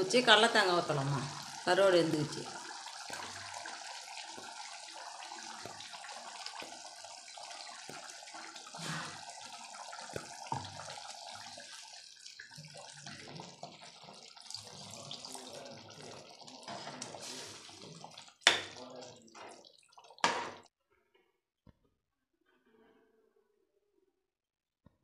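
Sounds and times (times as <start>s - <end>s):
curry bubbling in a pan: 0.0s - 20.7s.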